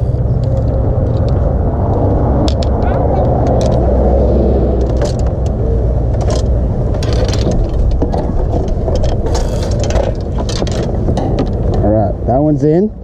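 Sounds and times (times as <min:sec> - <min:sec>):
clicks and knocks of gear: 0:00.0 - 0:03.9, 0:04.8 - 0:12.0
low rumble: 0:00.0 - 0:13.0.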